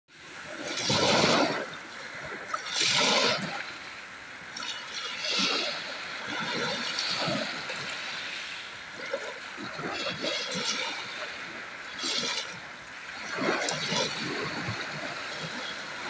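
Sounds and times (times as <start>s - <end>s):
waves washing over pebbles: 0.1s - 16.0s.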